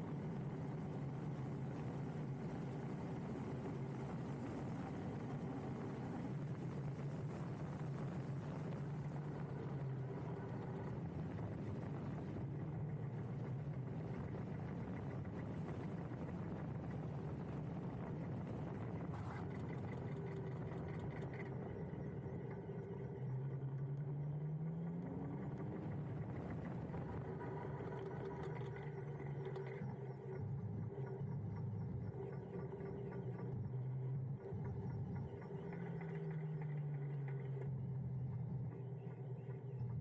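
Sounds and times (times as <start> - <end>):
road and wind noise: 0.0 - 40.0.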